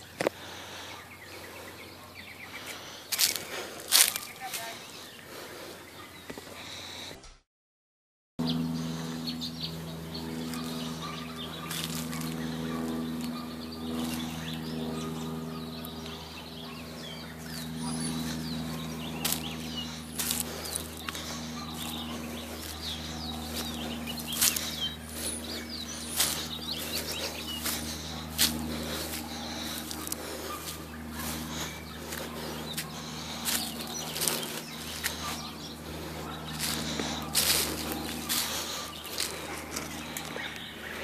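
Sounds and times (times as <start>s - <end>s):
birds chirping: 0.0s - 7.2s, 8.4s - 41.0s
steady low hum: 0.0s - 7.4s, 8.4s - 41.0s
footsteps crunching through leaves: 2.6s - 4.9s, 9.8s - 41.0s.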